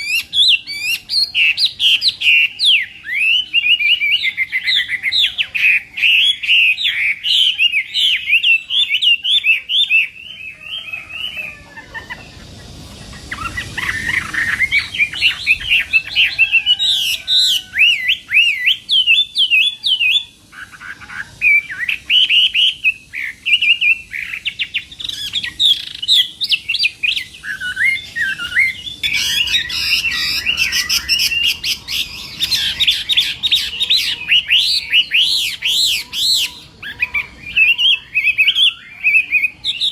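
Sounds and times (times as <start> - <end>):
bird singing whistled notes: 0.0 - 12.4, 13.2 - 39.9.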